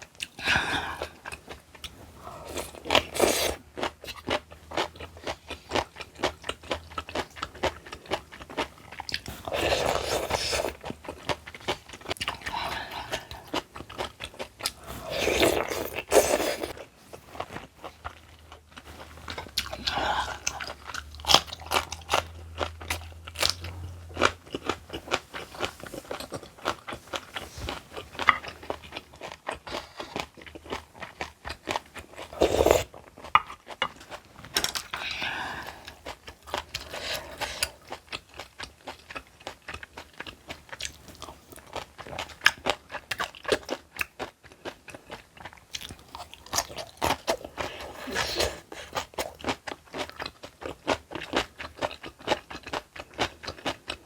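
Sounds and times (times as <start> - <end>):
person crunching and chewing food: 0.0 - 54.0.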